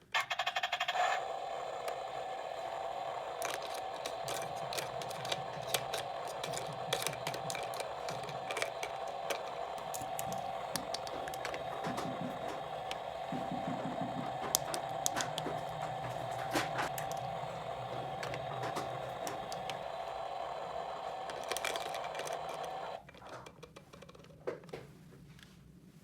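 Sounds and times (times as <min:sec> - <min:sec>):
steady hum: 0:01.0 - 0:23.0
light clicks and taps: 0:01.8 - 0:25.5.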